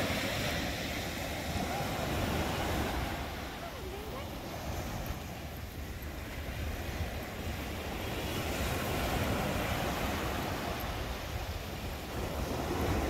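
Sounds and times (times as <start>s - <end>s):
small waves breaking on shore: 0.0s - 13.0s
wind rumbling on microphone: 0.0s - 13.0s.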